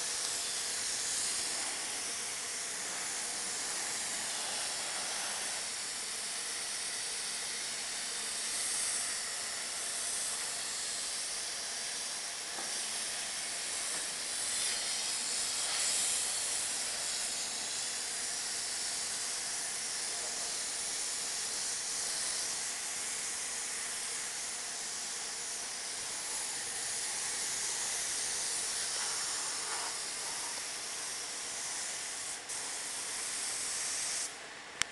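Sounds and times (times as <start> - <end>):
oil spray hissing: 0.0 - 34.4.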